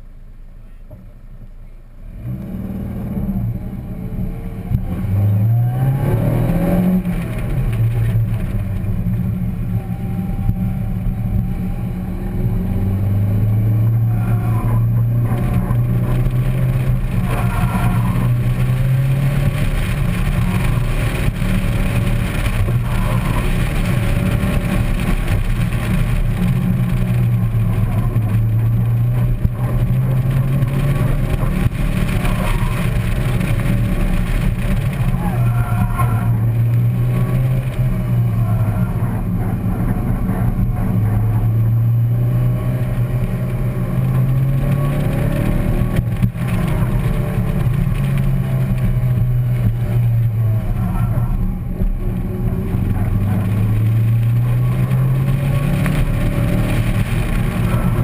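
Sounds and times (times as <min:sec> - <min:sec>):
road and wind noise: 0:00.0 - 0:58.0
car engine accelerating: 0:00.9 - 0:58.0.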